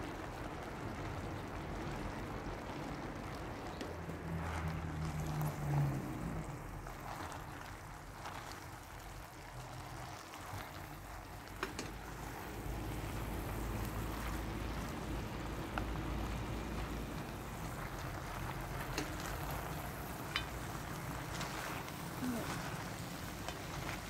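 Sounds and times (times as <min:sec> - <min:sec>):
wooden spoon stirring in pot: 0:00.2 - 0:24.0.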